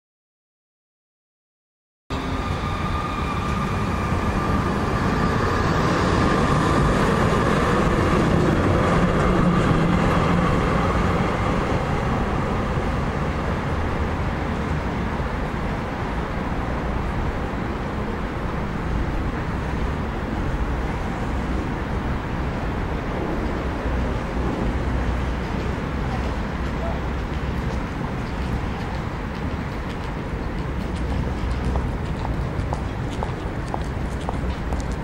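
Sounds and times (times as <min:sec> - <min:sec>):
tram wheels rumbling on rails: 0:02.1 - 0:35.0.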